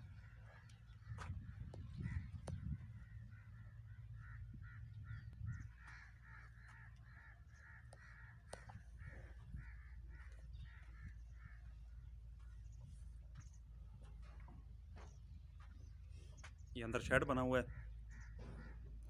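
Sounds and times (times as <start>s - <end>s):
bird harsh repeated calls: 0.0s - 12.8s, 15.0s - 19.0s.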